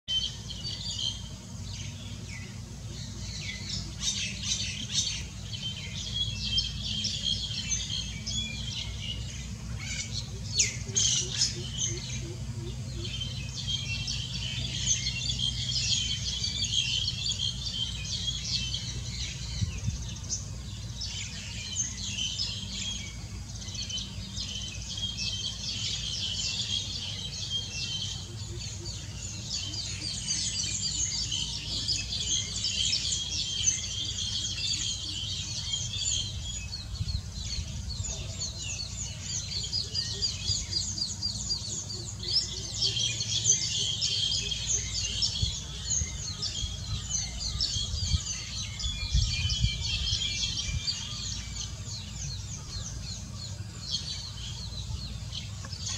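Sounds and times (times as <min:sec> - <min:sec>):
small birds chirping: 0:00.0 - 0:55.9
steady low hum: 0:00.1 - 0:55.9.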